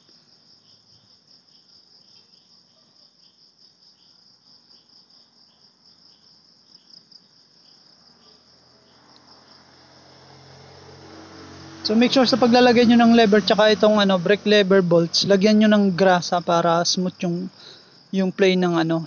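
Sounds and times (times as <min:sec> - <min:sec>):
insect chirping trill: 0:00.0 - 0:19.0.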